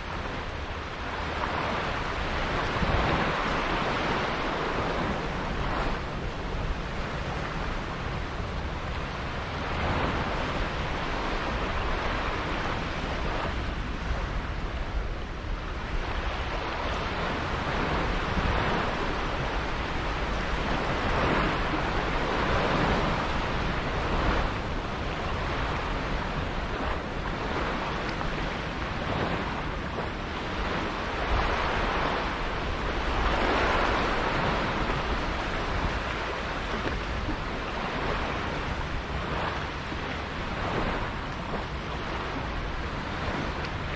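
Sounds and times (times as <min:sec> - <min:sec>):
sea water rushing and splashing: 0:00.0 - 0:43.9
wind buffeting microphone: 0:00.0 - 0:43.9.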